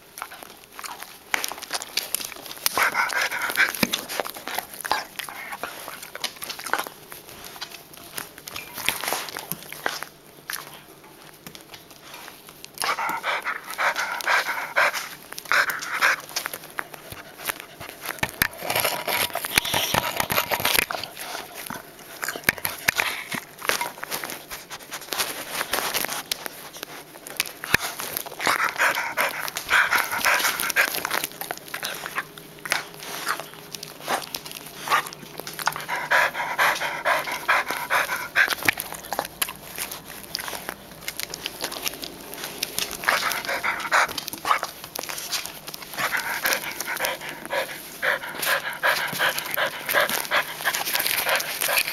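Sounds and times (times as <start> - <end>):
dog panting: 0.2 - 10.8, 11.9 - 51.9.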